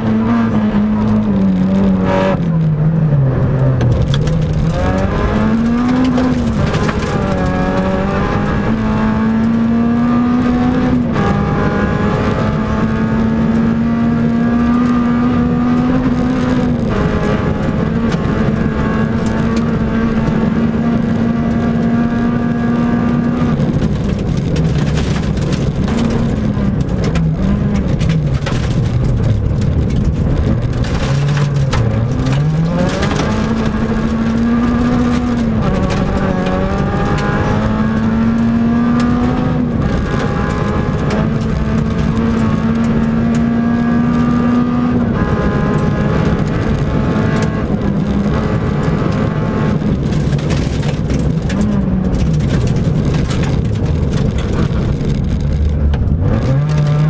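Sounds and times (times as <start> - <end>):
gravel rattling under car: 0.0 - 57.0
rally car engine revving: 0.0 - 57.0.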